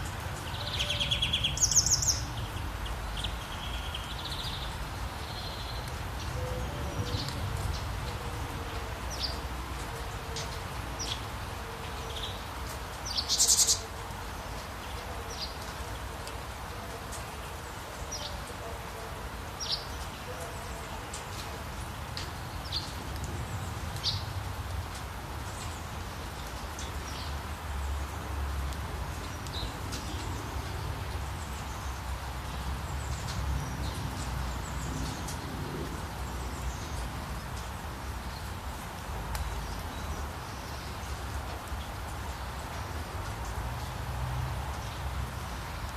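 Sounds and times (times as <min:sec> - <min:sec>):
flowing water: 0:00.0 - 0:45.9.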